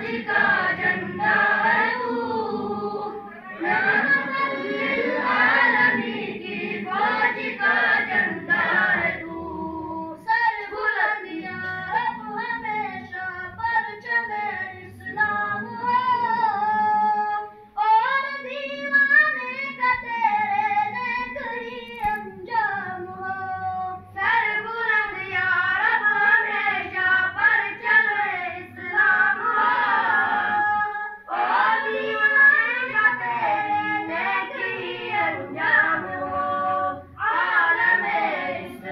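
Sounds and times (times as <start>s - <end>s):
boy chanting melodically: 0.0s - 38.9s.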